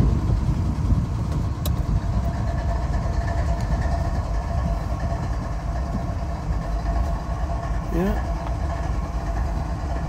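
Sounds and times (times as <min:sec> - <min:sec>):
locomotives idling rumble: 0:00.0 - 0:10.0.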